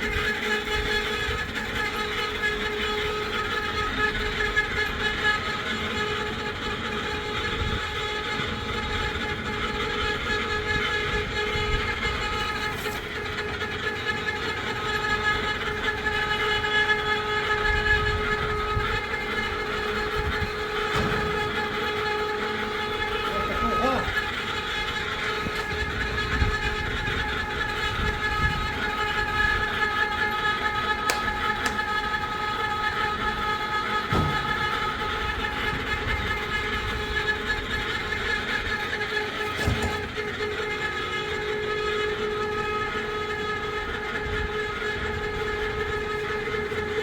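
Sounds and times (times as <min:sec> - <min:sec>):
mechanical drone with held tones: 0:00.0 - 0:47.0.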